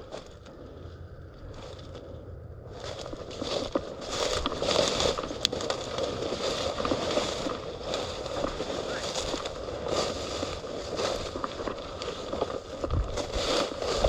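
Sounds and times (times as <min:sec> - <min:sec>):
rustling of dry vegetation: 0:00.0 - 0:14.0.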